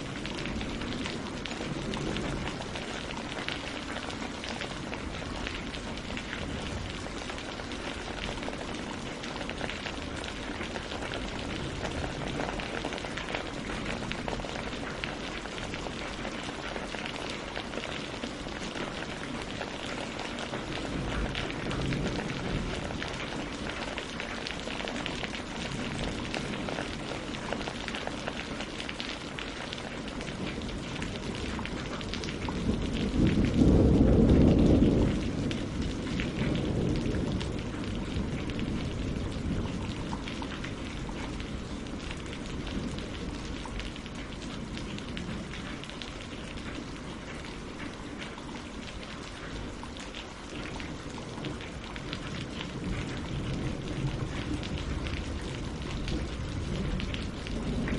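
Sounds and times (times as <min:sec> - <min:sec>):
rain on leaves and water: 0:00.0 - 0:57.9.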